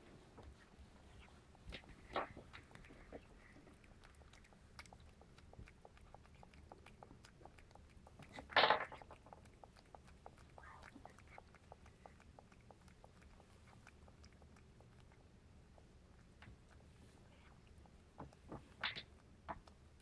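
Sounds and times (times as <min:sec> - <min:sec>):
cat licking a spoon: 0:00.5 - 0:20.0.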